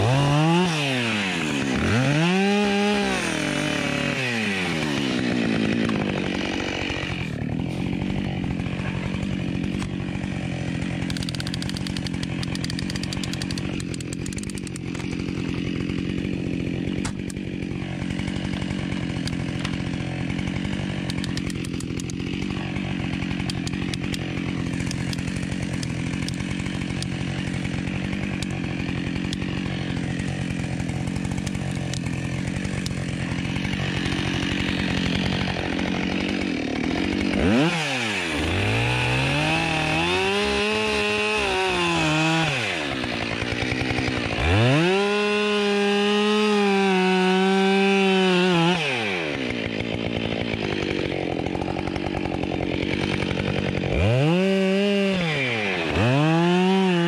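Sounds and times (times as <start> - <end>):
chainsaw engine idling and revving: 0.0 - 57.0.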